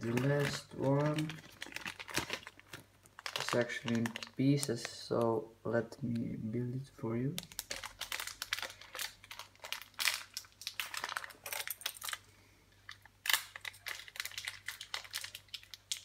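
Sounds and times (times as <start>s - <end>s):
plastic bag crinkling: 0.0s - 5.2s, 7.3s - 16.0s.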